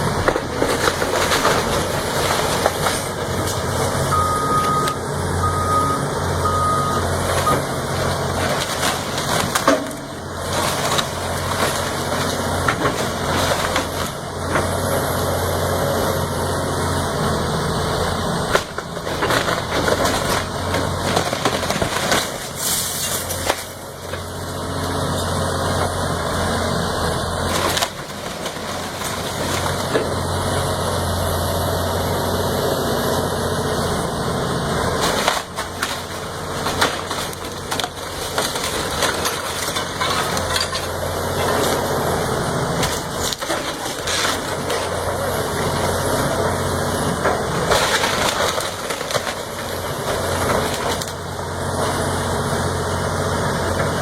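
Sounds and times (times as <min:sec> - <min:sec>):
wood cracking and crunching: 0:00.0 - 0:05.0, 0:07.1 - 0:54.0
diesel engine running: 0:00.0 - 0:54.0.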